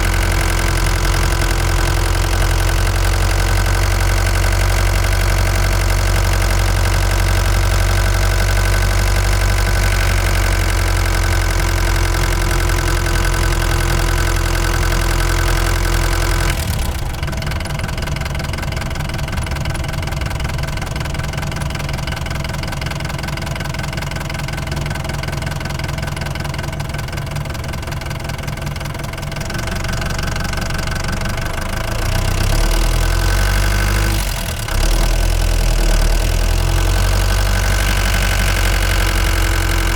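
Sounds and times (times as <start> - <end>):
van engine running: 0.0 - 39.9.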